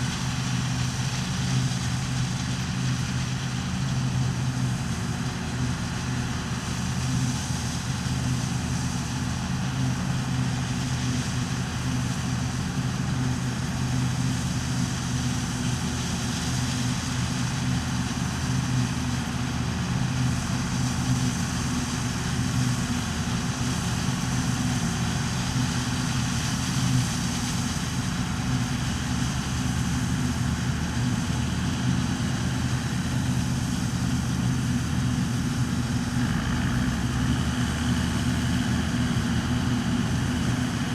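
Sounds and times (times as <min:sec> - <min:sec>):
combine harvester engine running: 0:00.0 - 0:40.9.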